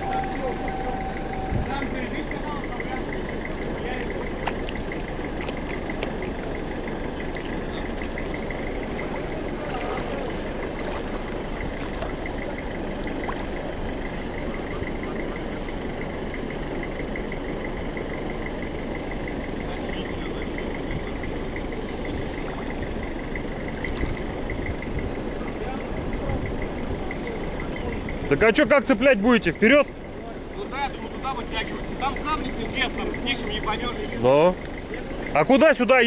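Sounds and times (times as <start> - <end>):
fast even ticking: 0.0 - 36.0
vehicle engine idling: 0.0 - 36.0.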